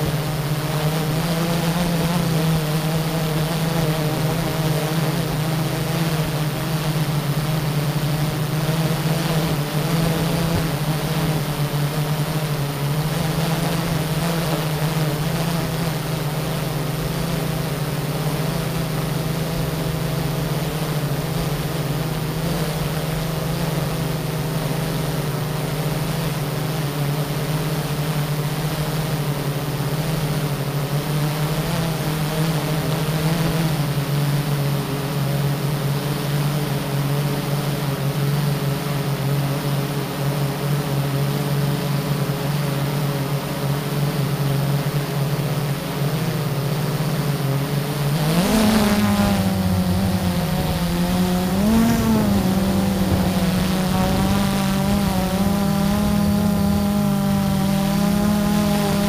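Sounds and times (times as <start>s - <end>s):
quadcopter motors droning: 0.0s - 59.0s.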